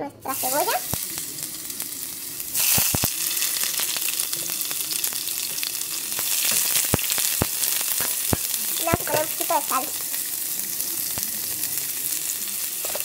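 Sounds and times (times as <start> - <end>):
onion sizzling in oil: 0.2 - 13.0.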